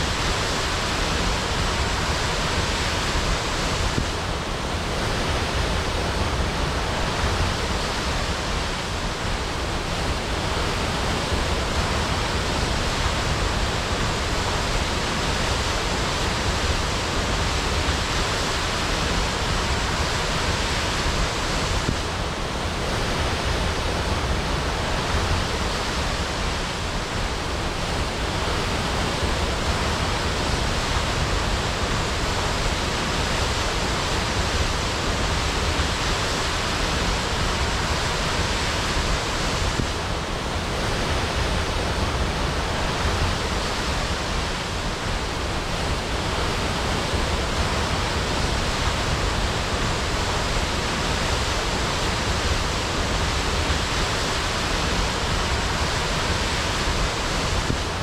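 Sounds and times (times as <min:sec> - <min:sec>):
waterfall crashing: 0:00.0 - 0:58.0.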